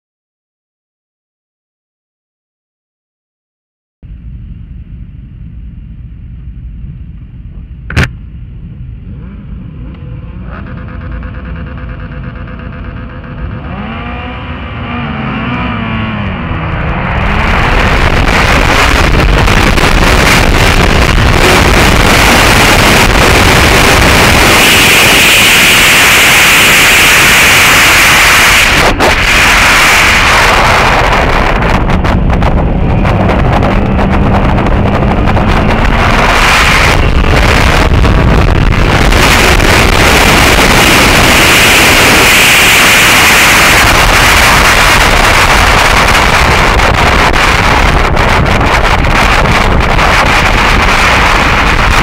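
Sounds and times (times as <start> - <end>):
wind noise: 4.0 - 52.0
motorcycle engines revving: 8.8 - 52.0.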